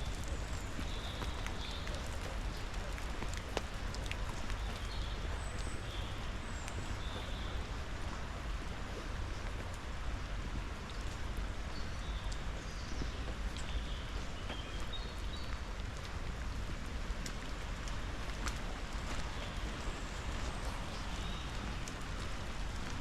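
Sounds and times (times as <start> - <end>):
rain: 0.0 - 23.0.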